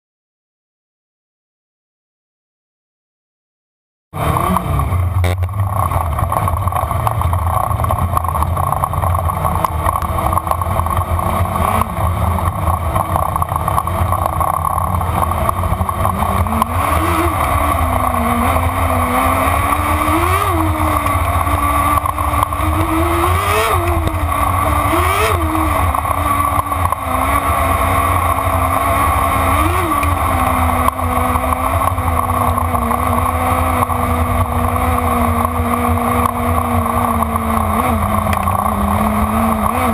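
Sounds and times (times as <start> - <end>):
race car engine: 4.2 - 39.9.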